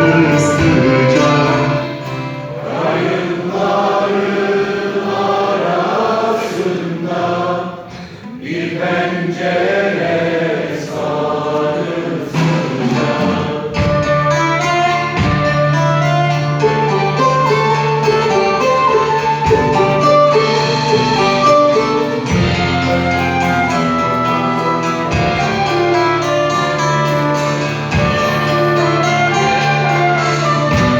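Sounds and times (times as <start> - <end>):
orchestra playing: 0.0 - 7.5, 8.4 - 30.9
voices singing: 0.0 - 30.9.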